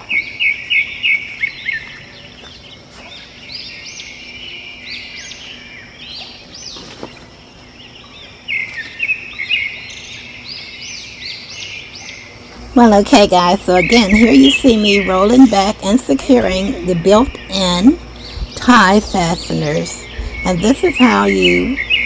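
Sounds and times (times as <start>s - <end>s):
birds chirping and singing: 0.0s - 22.0s.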